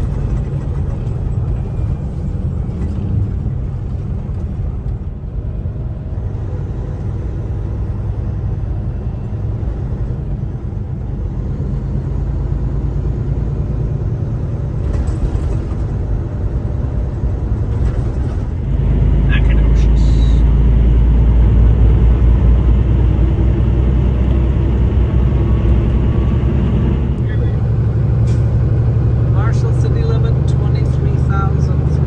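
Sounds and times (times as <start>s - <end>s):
truck engine and road rumble: 0.0s - 32.0s.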